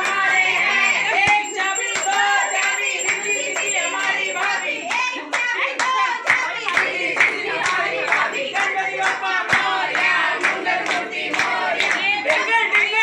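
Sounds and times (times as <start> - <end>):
group singing devotional song: 0.0 - 13.0
hands clapping along: 0.0 - 13.0.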